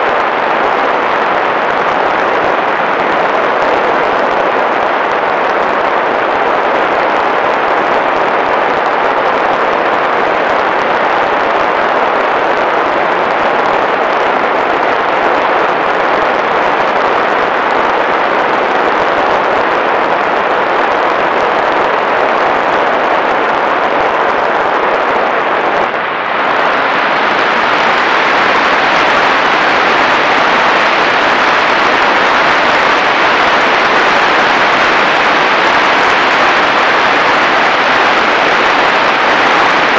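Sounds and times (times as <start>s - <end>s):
loud rush of air: 0.0s - 39.9s.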